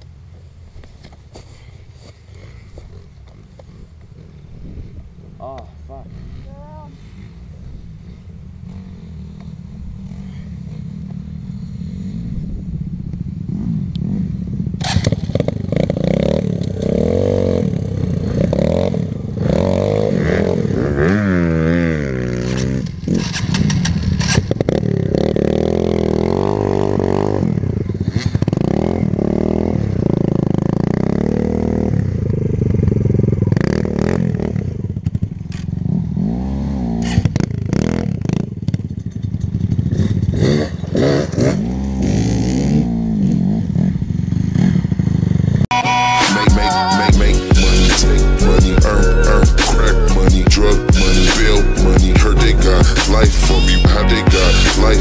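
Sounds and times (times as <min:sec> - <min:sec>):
dirt bike engine revving: 0:02.3 - 0:55.0.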